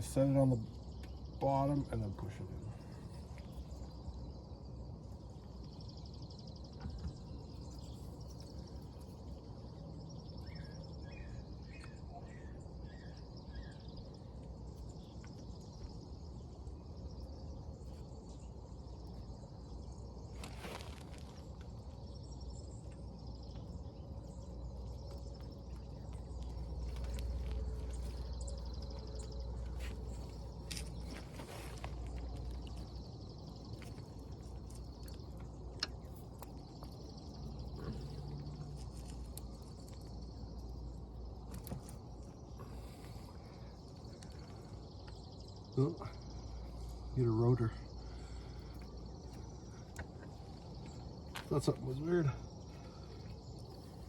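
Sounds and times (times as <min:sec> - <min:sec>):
birds chirping: 0:00.0 - 0:54.0
insects buzzing: 0:00.0 - 0:54.0.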